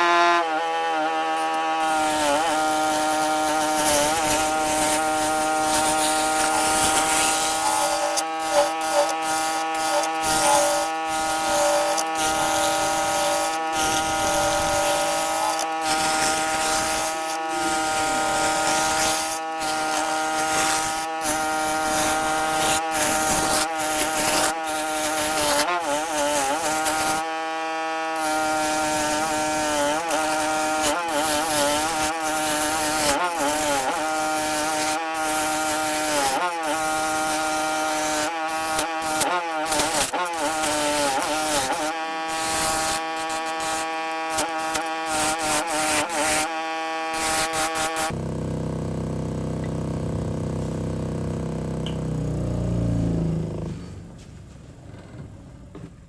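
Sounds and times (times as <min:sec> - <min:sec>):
power tool whining on wood: 0:00.0 - 0:54.0.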